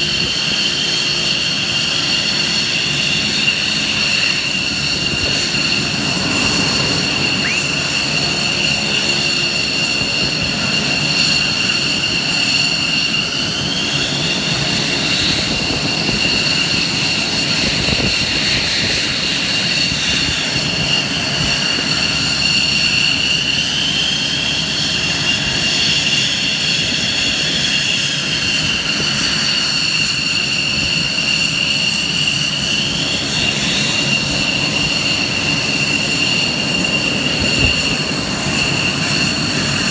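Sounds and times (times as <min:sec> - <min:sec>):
engine whine spooling up and down: 0:00.0 - 0:39.9
jet turbine engines idling: 0:00.0 - 0:39.9.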